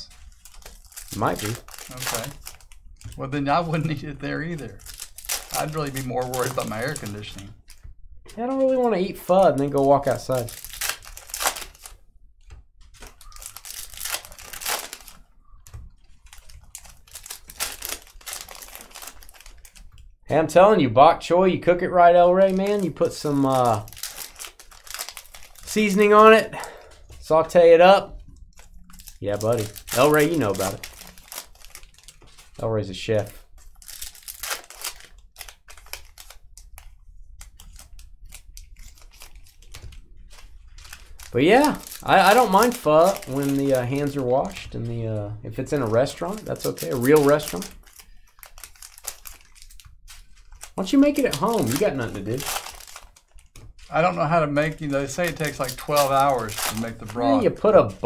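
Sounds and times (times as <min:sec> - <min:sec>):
card pack wrappers crinkling and tearing: 0:00.0 - 0:20.2, 0:22.0 - 0:58.0.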